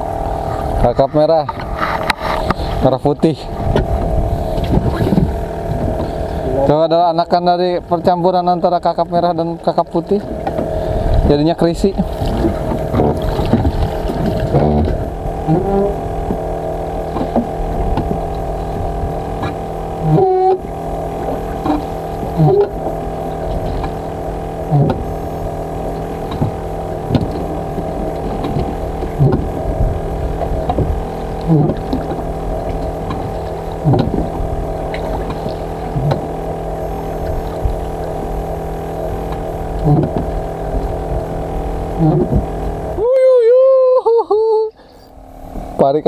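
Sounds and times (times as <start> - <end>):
boat engine idling: 0.0 - 46.0.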